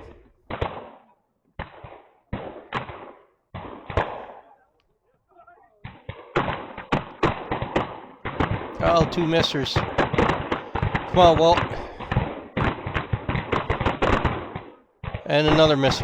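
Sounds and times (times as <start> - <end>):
pistol shots with echo: 0.0 - 4.7, 5.7 - 16.0.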